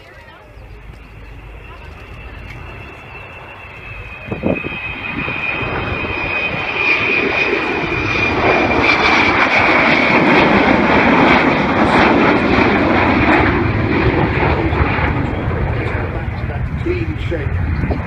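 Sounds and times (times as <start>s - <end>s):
high jet whine: 0.0s - 18.0s
jet engines roaring: 0.0s - 18.0s.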